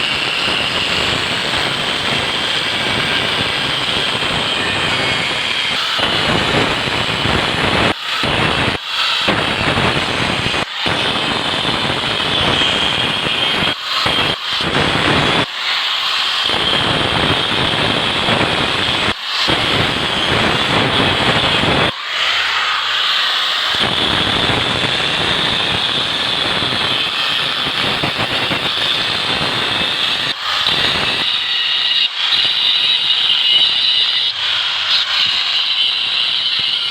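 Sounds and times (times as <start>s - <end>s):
angle grinder cutting steel: 0.0s - 36.9s.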